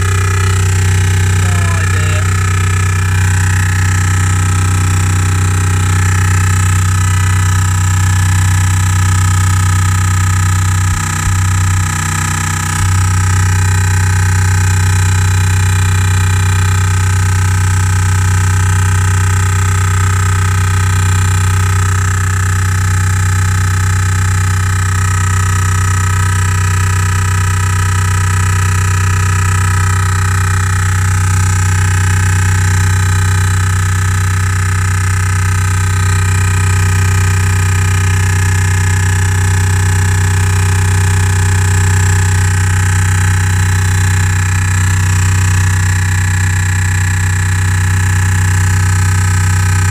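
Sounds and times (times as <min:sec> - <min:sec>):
loud drone from car speakers: 0:00.0 - 0:49.9.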